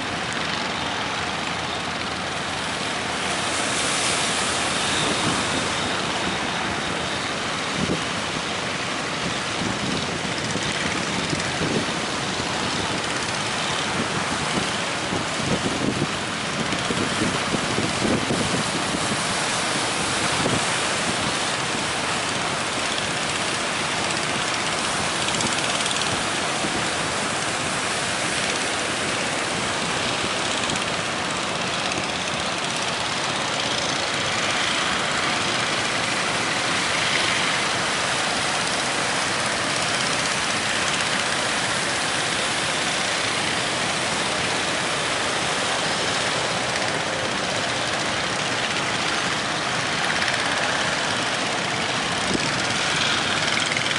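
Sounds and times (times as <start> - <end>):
boat engine running: 0.0 - 53.9
wind and water rushing: 0.0 - 53.9.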